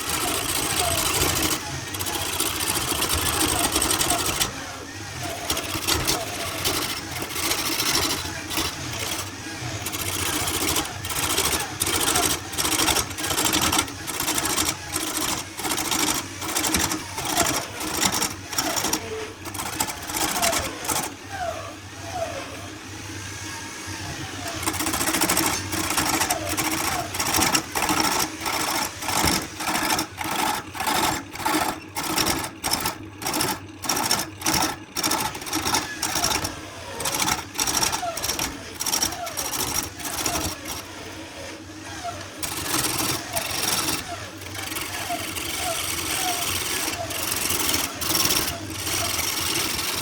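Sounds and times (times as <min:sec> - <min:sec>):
tool working wood: 0:00.0 - 0:22.8, 0:23.5 - 0:50.0.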